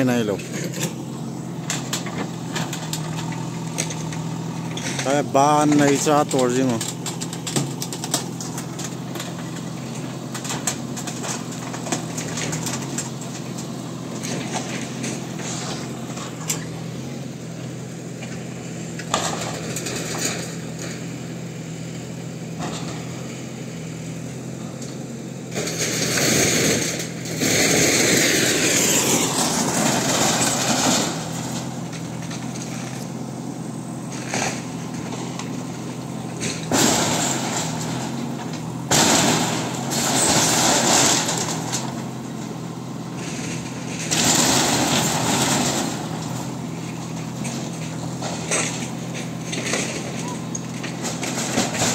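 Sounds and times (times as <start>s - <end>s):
knocks and clatter of demolition: 0.0s - 17.3s, 18.0s - 21.4s, 22.5s - 23.4s, 24.3s - 51.9s
diesel engine running: 0.0s - 51.9s.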